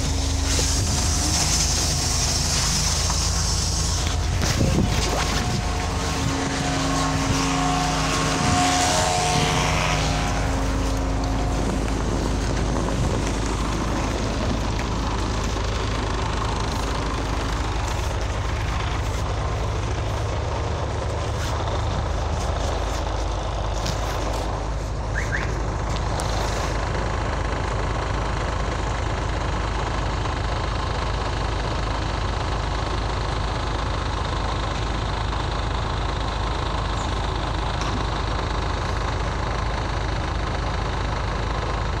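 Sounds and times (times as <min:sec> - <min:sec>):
bus diesel engine idling: 0:00.0 - 0:42.0
traffic noise: 0:00.0 - 0:42.0.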